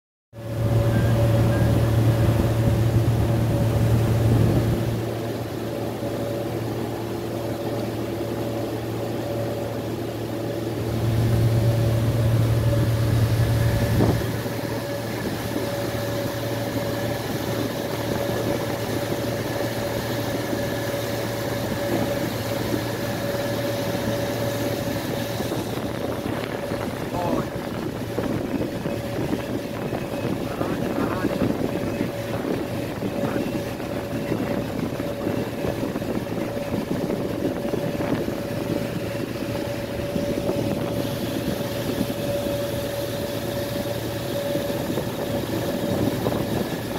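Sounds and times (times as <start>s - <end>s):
boat engine running: 0.3s - 46.9s
wind and water hiss: 0.4s - 46.9s.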